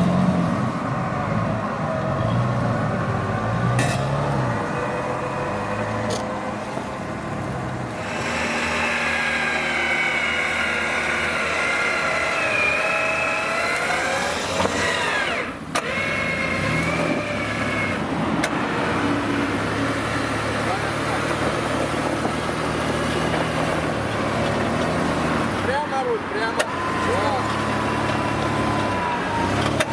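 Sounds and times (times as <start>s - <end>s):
engine working under load: 0.0s - 29.9s.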